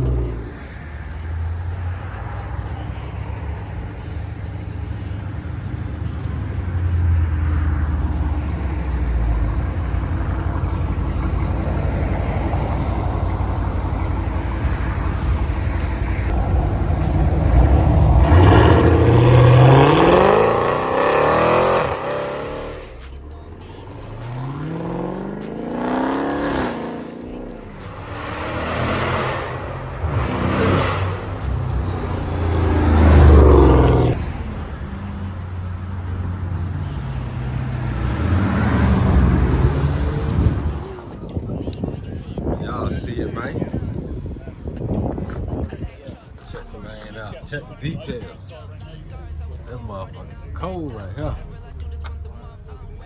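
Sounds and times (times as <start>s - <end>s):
car engine rumbling and revving: 0.0s - 53.0s.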